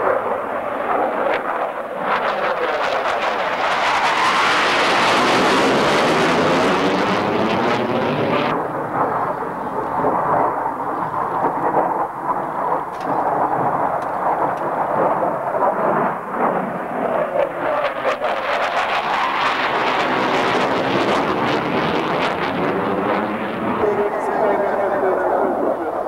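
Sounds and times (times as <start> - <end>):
jet roaring past: 0.0 - 26.0.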